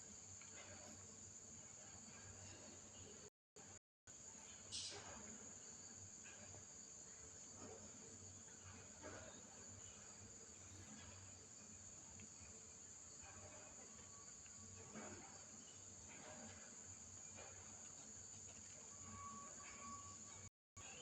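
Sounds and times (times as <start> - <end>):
faint crickets chirping: 0.0 - 21.0.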